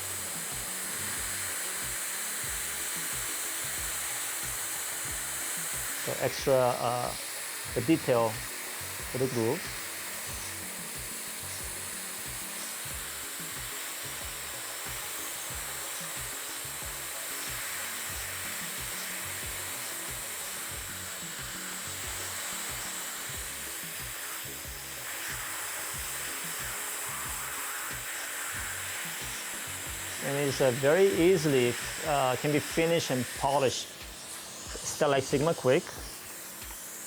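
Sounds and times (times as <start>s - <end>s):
air-water spray hissing: 0.0s - 37.0s
dental drill whining: 0.0s - 37.0s.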